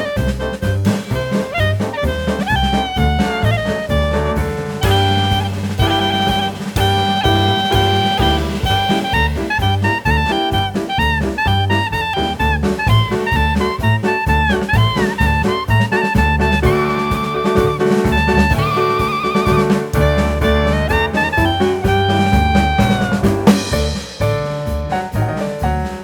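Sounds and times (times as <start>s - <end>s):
upbeat jazz music: 0.0s - 26.0s.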